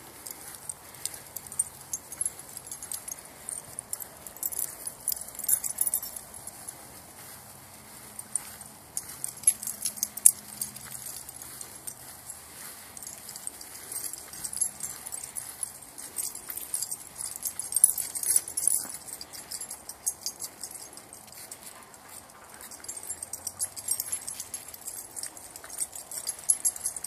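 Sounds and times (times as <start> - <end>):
dog tags jingling: 0.0 - 27.0.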